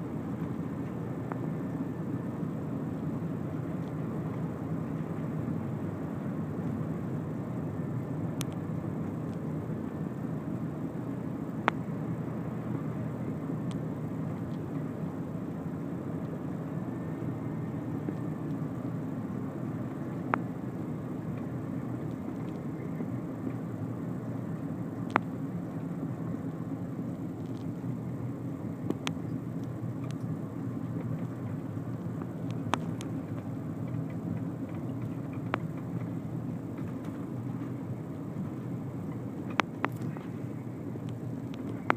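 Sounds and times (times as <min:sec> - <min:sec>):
car road noise: 0:00.0 - 0:41.9.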